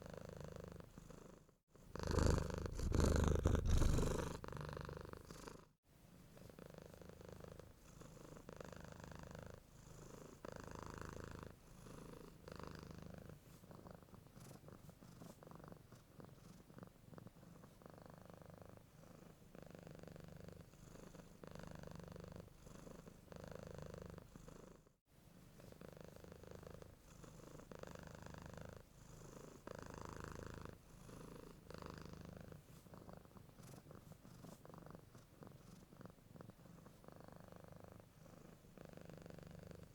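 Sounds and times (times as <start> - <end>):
cat purring: 0.0 - 24.9, 25.6 - 39.9.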